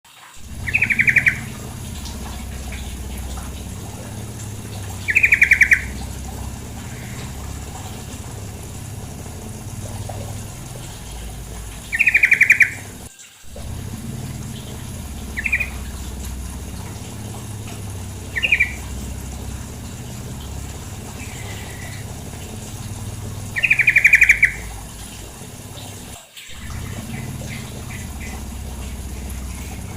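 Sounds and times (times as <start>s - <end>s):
flowing water rushing: 0.1s - 29.9s
bird chattering calls: 0.4s - 29.9s.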